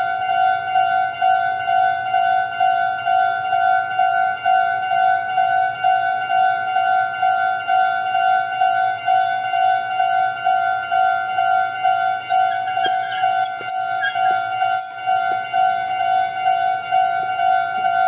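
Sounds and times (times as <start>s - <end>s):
level crossing warning bell: 0.7s - 18.0s.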